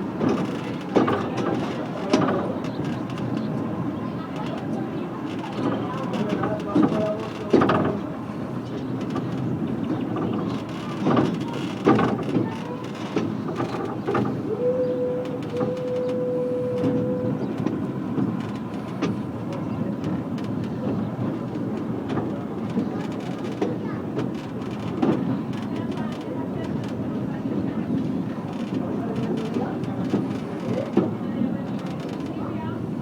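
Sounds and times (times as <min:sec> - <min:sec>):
train running gear rumble: 0:00.0 - 0:33.0.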